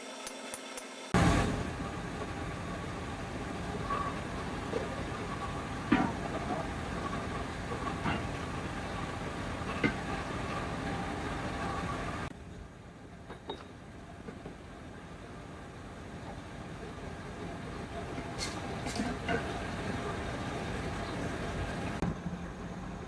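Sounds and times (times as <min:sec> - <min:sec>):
mechanical workshop noise: 0:00.0 - 0:22.2.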